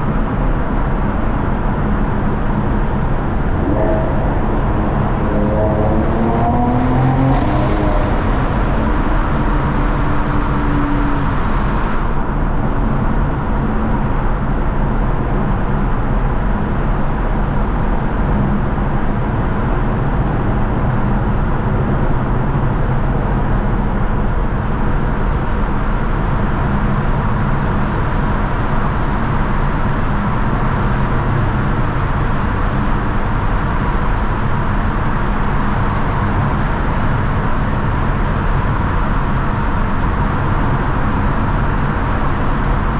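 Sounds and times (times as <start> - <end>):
car engine and exhaust drone: 0.0 - 42.9.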